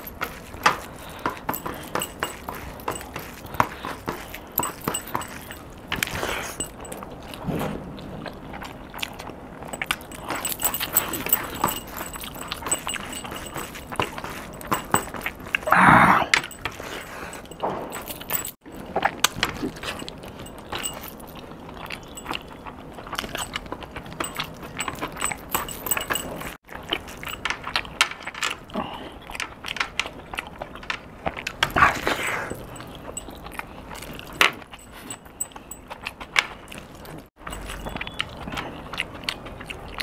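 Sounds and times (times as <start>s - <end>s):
metal bracelets jangling: 0.0s - 7.4s, 9.6s - 22.5s, 23.1s - 28.7s, 31.6s - 38.5s
wet chewing: 0.0s - 40.0s.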